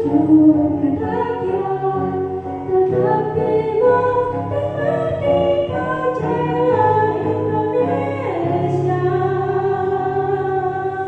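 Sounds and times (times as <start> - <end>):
musical accompaniment: 0.0 - 11.0.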